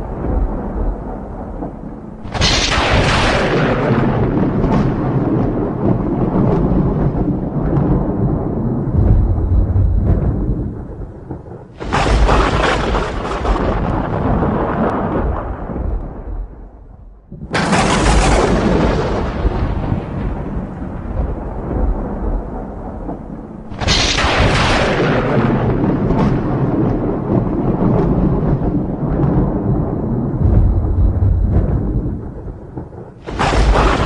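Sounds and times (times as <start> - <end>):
thunderclaps with rolling rumble: 0.0 - 34.0.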